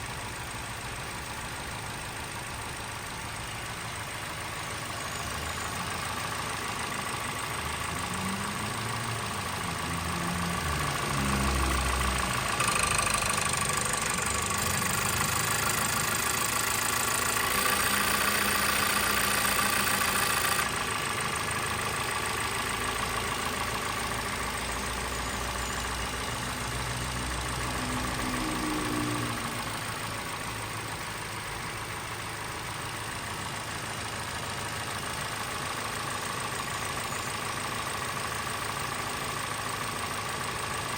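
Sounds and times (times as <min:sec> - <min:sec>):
car engine running with whine: 0:00.0 - 0:40.9.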